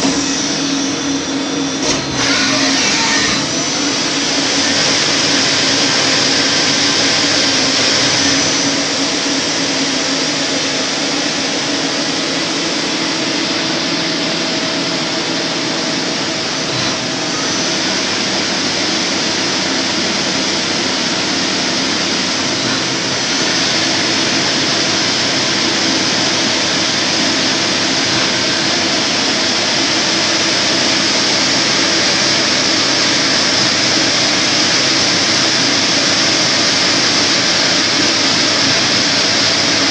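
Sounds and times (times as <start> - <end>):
lathe whirring: 0.0 - 39.9.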